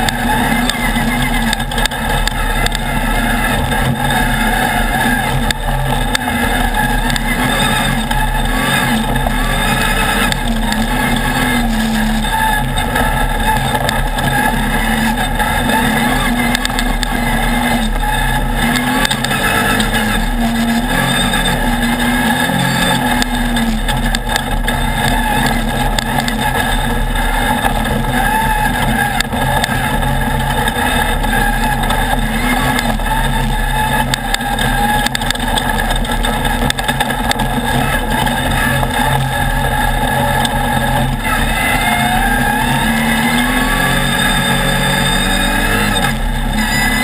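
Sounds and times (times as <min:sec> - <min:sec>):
buggy engine running hard: 0:00.0 - 0:47.0
road and wind noise: 0:00.0 - 0:47.0.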